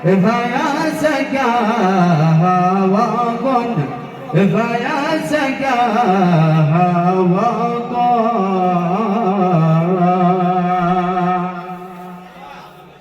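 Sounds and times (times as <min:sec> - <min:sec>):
man singing: 0:00.0 - 0:12.4.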